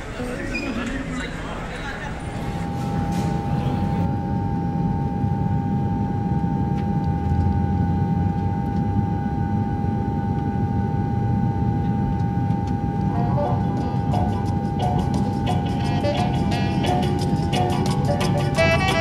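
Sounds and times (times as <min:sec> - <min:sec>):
airliner cabin low rumble: 0:00.0 - 0:19.0
steady hum: 0:00.0 - 0:19.0.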